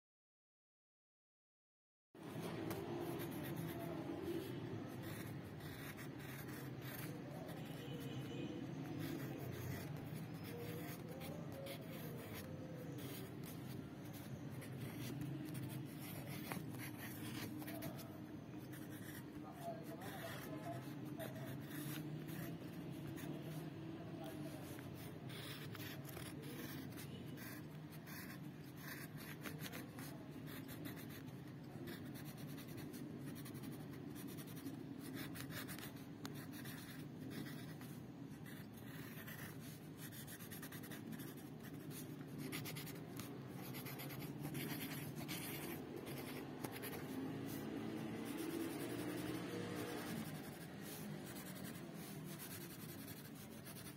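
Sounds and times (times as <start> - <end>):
marker pen rubbing on paper: 2.2 - 53.9
pencil scratching on paper: 2.2 - 53.9.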